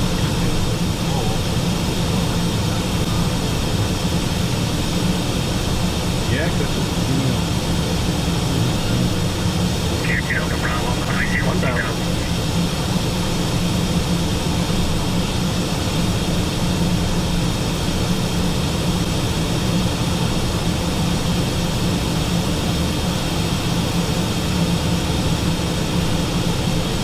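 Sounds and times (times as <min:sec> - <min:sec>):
low engine hum: 0:00.0 - 0:24.6
airflow rushing in cockpit: 0:00.0 - 0:27.0.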